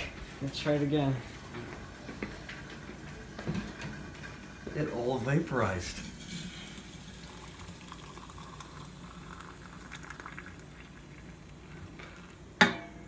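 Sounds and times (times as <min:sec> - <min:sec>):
boiling water bubbling: 0:00.0 - 0:12.6.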